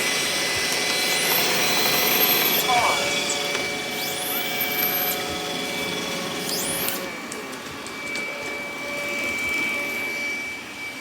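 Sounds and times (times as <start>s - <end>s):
robot vacuum motor whine: 0.0s - 11.0s
whirring suction and brushes: 0.0s - 11.0s.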